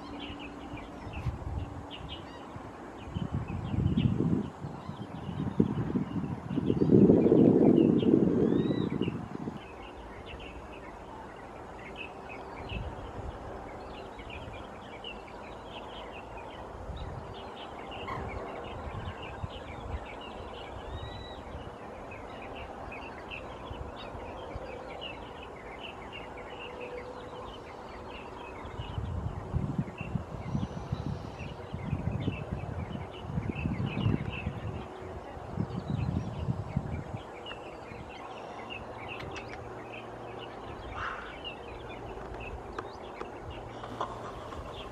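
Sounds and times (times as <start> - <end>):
small birds chirping: 0.0 - 44.9
wind rumble on microphone: 0.0 - 44.9.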